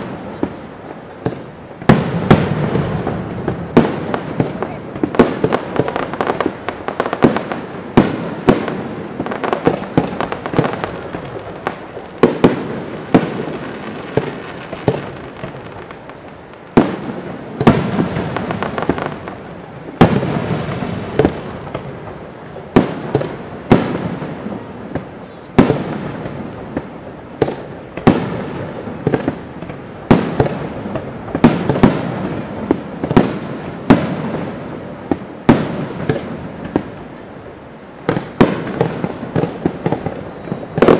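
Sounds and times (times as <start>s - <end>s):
fireworks bursting with sharp bangs: 0.0s - 40.9s.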